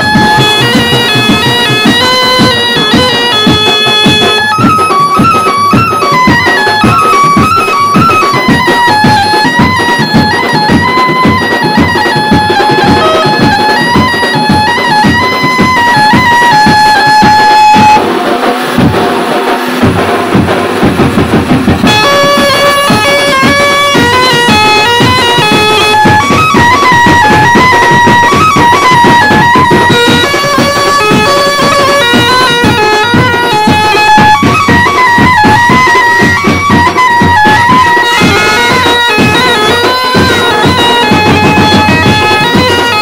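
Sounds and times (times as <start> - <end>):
piped melody: 0.0 - 43.0
steady drum beat: 0.0 - 43.0.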